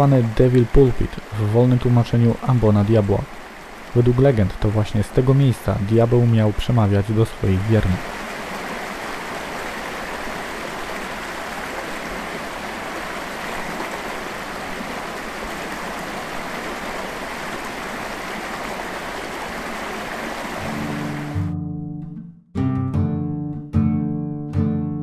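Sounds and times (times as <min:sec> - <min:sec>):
water rushing over rocks: 0:00.0 - 0:21.5.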